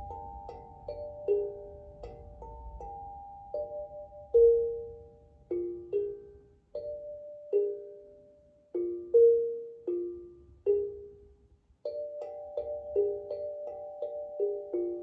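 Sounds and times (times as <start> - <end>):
steel tongue drum melody: 0.0 - 15.0.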